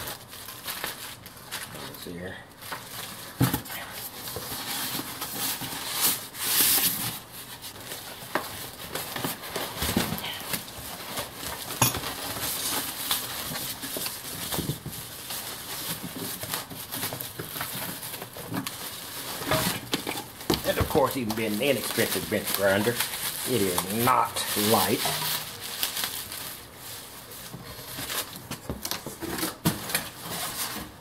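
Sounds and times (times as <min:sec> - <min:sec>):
cardboard and plastic rustling: 0:00.0 - 0:31.0.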